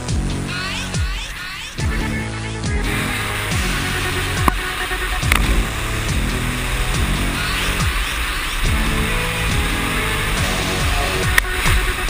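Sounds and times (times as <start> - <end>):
electronic music: 0.0 - 12.0
warbling synth lines: 1.8 - 12.0.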